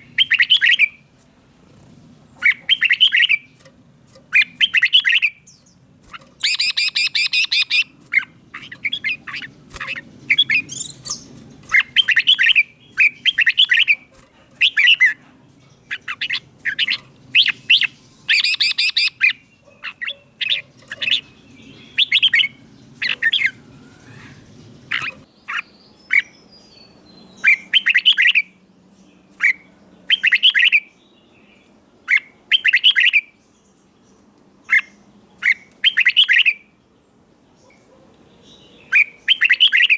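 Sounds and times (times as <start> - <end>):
bird whistling song: 0.0 - 1.1, 2.4 - 3.6, 4.3 - 28.6, 29.3 - 33.4, 34.6 - 36.7, 38.4 - 39.9.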